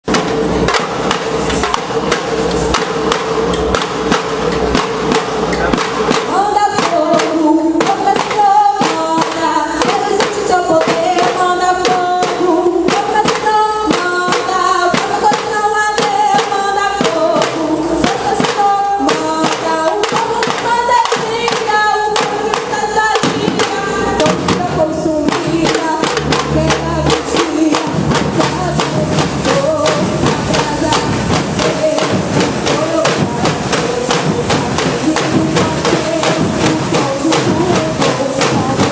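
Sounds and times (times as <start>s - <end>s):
fast drum rhythm: 0.0s - 38.9s
stepping melody: 0.0s - 38.9s.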